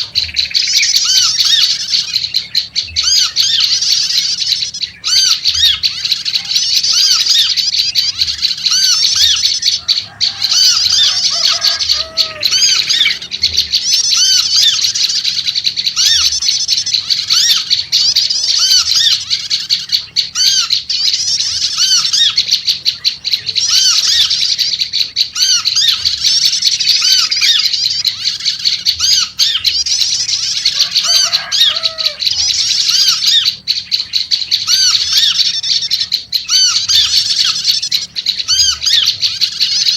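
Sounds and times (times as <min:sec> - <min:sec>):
bird bubbly calls: 0:00.0 - 0:39.9
bird chattering: 0:00.0 - 0:39.9.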